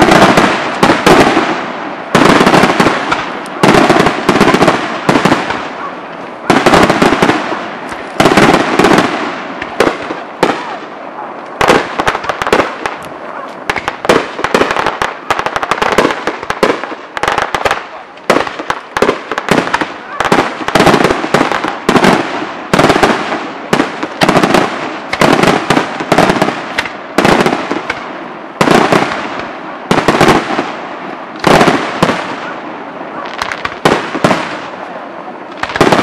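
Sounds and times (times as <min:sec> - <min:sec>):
firework bursts and bangs: 0:00.0 - 0:36.0
firework crackling: 0:00.0 - 0:36.0.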